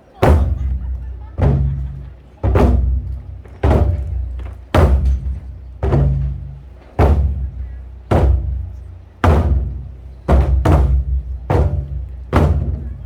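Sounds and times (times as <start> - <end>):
large drums booming: 0.2 - 13.0.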